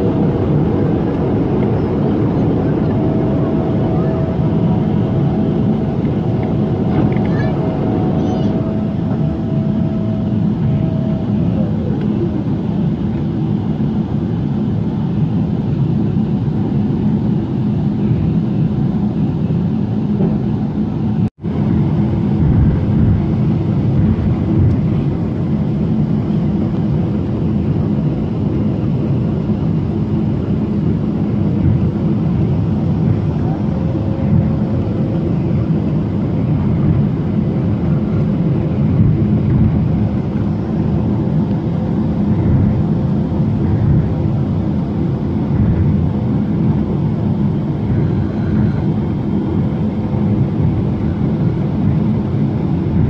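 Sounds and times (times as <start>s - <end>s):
jet engine cabin noise: 0.0s - 53.0s.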